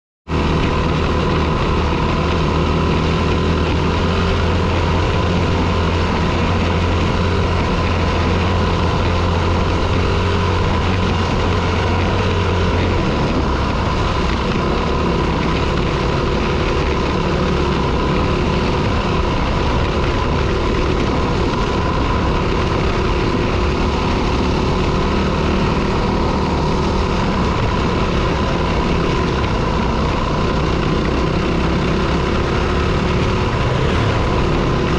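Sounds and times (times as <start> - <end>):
dirt bike engine running: 0.3 - 34.9.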